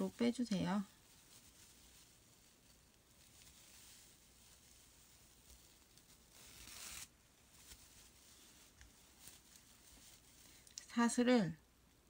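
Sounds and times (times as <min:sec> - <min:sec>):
faint rustling of handling: 0:00.0 - 0:12.0.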